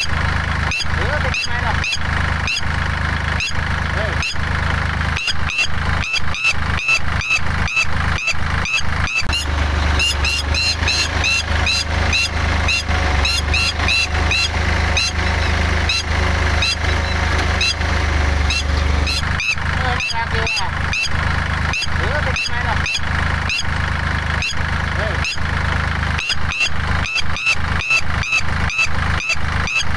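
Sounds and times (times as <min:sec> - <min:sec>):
lapwing alarm calls: 0:00.0 - 0:02.8, 0:03.4 - 0:04.5, 0:05.2 - 0:23.7, 0:24.4 - 0:25.5, 0:26.2 - 0:29.9
tractor engine humming: 0:00.0 - 0:29.9.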